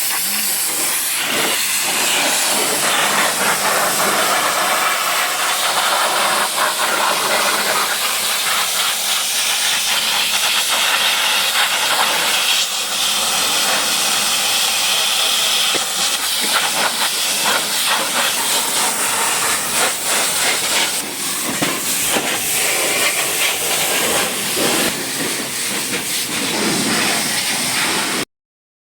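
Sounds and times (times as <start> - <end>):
pressure washer spray hissing: 0.0 - 28.2
water spattering on vehicle: 0.0 - 28.2.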